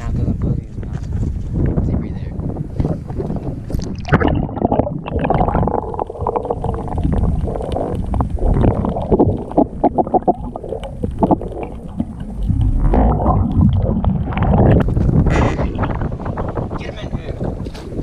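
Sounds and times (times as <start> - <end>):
muffled underwater sloshing: 2.8 - 18.0.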